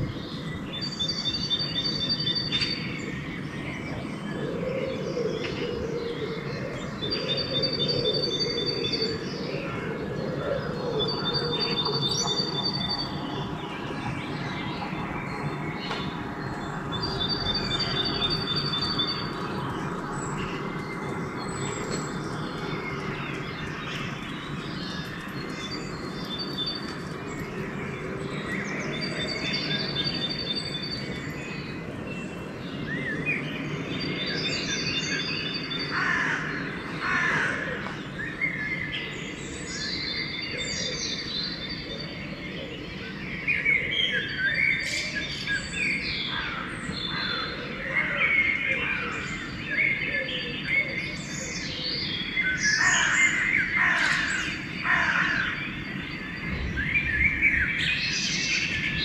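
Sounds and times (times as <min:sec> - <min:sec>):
birds singing: 0:00.0 - 0:59.0
sweeping bird calls: 0:00.0 - 0:59.0.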